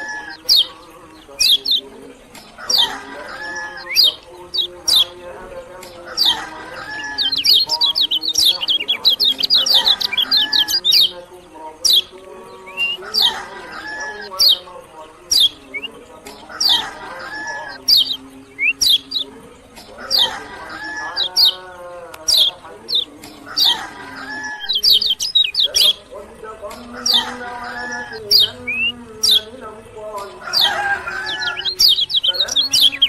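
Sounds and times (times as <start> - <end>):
lower bird calls: 0.0 - 29.6
songbird singing high notes: 0.0 - 33.0.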